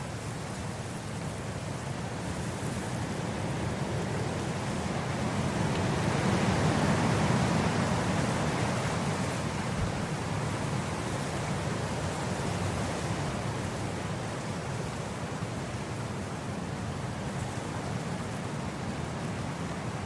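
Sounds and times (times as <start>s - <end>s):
wind blowing across grass: 0.0s - 20.0s.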